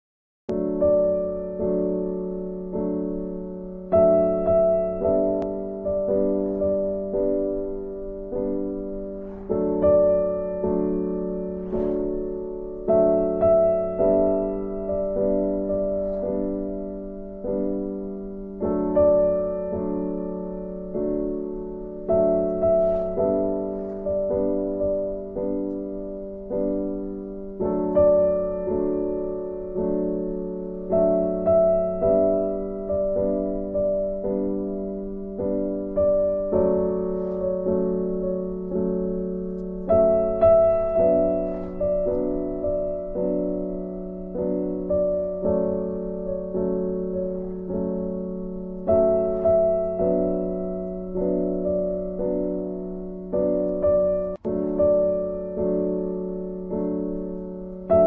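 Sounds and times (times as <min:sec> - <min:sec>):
gentle piano music: 0:00.5 - 0:58.0.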